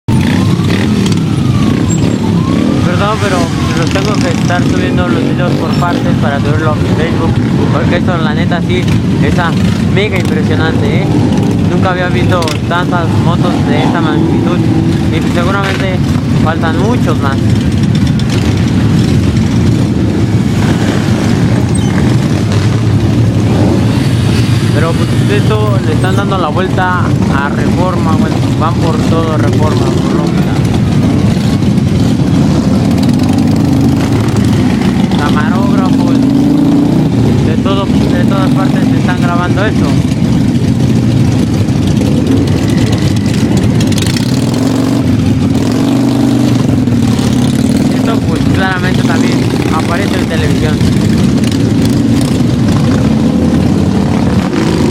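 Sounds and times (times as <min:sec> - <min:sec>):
motorcycles riding past: 0:00.1 - 0:54.9.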